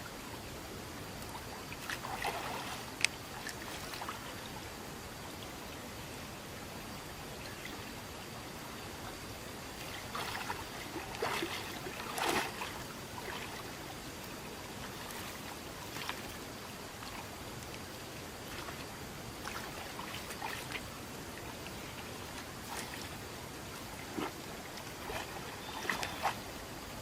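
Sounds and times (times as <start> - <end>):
running water rushing: 0.0 - 27.0
water splashes: 1.1 - 5.5, 7.3 - 27.0.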